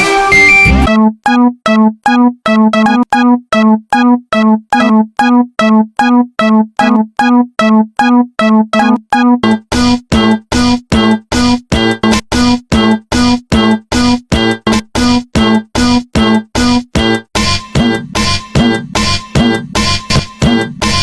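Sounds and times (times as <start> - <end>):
busy music: 0.0 - 21.0.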